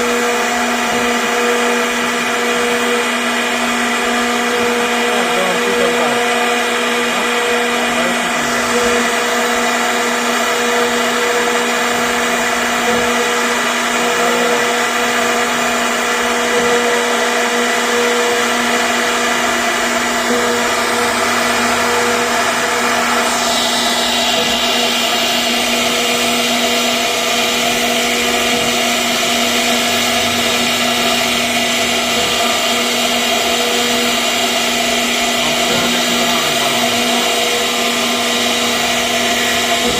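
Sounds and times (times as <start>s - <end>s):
router bit cutting wood: 0.0s - 39.9s
router spindle whining: 0.0s - 39.9s.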